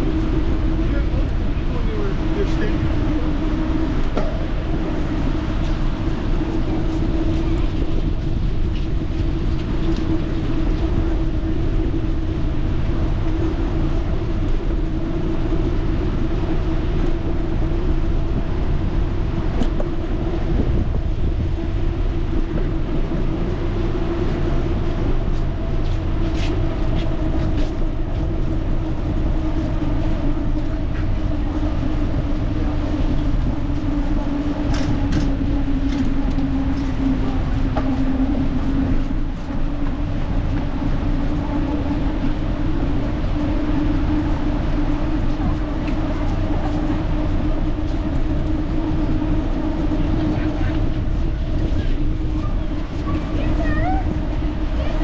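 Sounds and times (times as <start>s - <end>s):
steady hum: 0.0s - 55.0s
wind rumbling on microphone: 0.0s - 55.0s.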